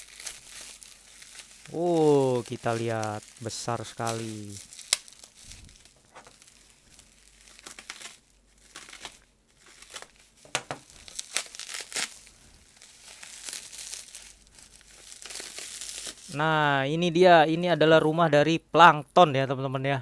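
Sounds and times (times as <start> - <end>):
plastic wrap crinkling and snapping: 0.0 - 16.4.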